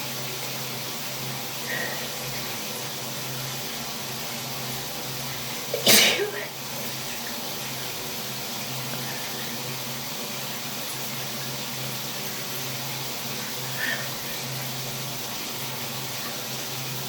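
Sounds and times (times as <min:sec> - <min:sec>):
shower water running: 0:00.0 - 0:17.0.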